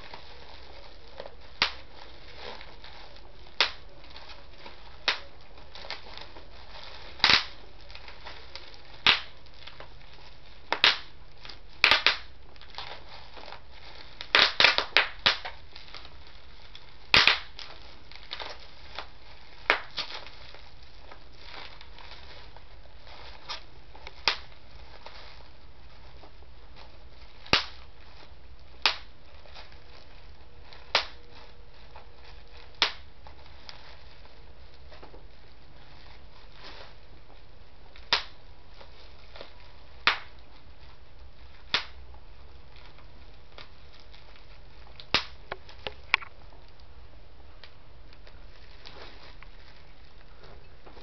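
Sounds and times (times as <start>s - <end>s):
bubble wrap pops: 0.0s - 46.9s
plastic sheet crinkling: 0.0s - 51.0s.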